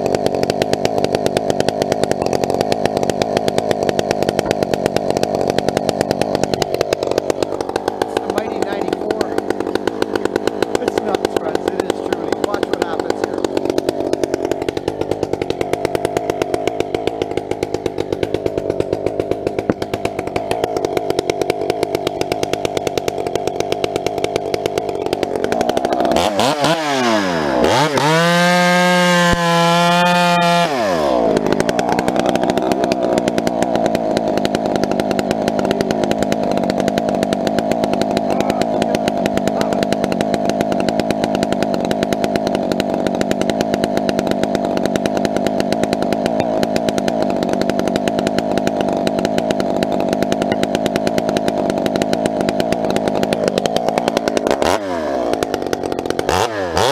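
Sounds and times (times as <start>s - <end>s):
two-stroke chainsaw revving: 0.0s - 56.9s.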